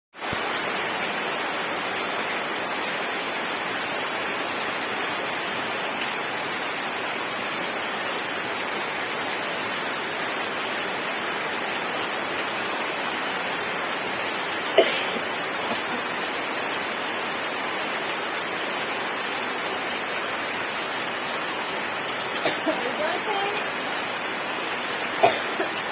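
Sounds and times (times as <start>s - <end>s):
rain falling: 0.2s - 25.9s.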